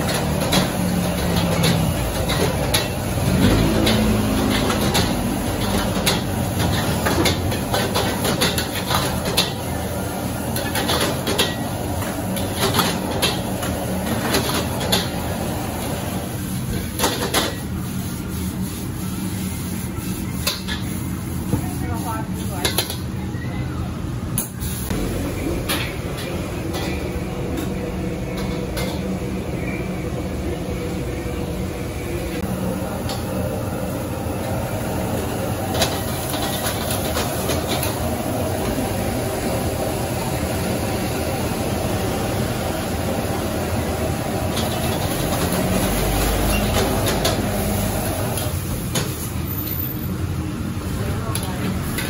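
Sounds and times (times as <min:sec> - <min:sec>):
gas burner roaring: 0:00.0 - 0:23.0, 0:23.9 - 0:52.0.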